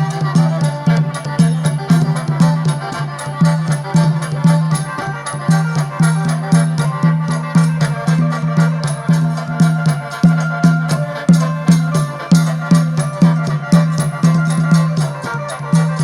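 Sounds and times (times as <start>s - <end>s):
instrumental band music: 0.0s - 16.0s.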